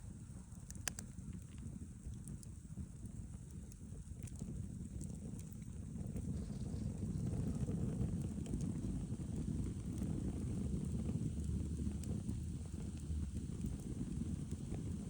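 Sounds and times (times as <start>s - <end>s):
rumble of flames: 0.0s - 15.0s
fire crackling and popping: 0.1s - 15.0s.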